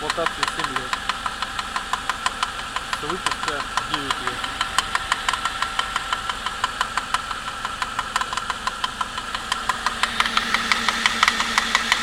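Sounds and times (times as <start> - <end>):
engine hum: 0.0 - 12.0
engine knock sharp taps: 0.0 - 12.0.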